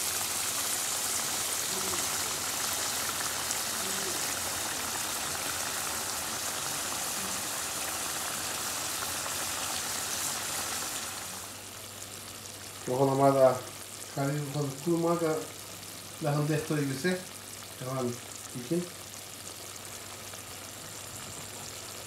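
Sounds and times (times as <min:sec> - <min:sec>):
curry bubbling and sizzling: 0:00.0 - 0:22.0.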